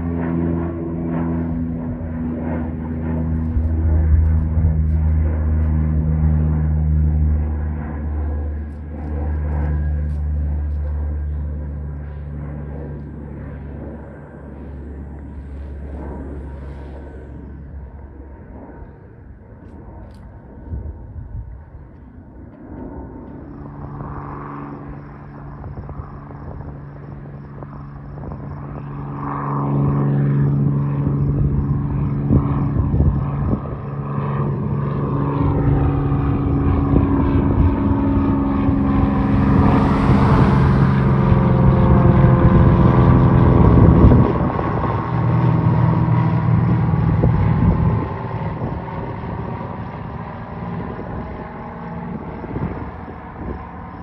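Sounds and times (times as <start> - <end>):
propeller plane flying over: 0.0 - 54.0.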